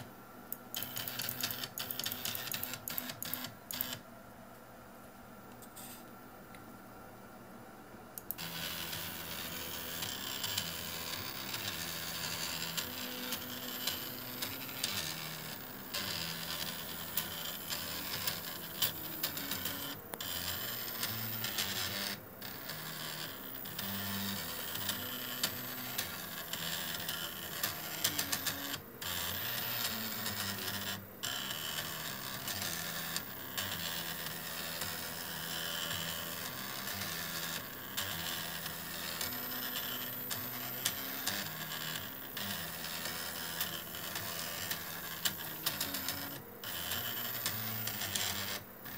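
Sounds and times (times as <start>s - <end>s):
stepper motor buzzing whine: 8.2s - 48.9s.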